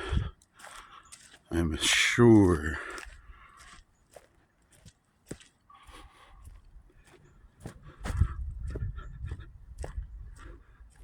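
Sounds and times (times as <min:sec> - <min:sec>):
footsteps crunching on dry ground: 0:00.0 - 0:11.0.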